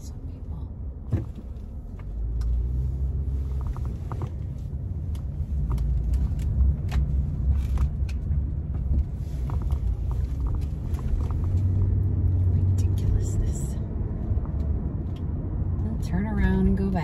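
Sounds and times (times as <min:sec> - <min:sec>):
car engine and road rumble: 0:00.0 - 0:17.0
light clicks and creaks: 0:01.1 - 0:15.9.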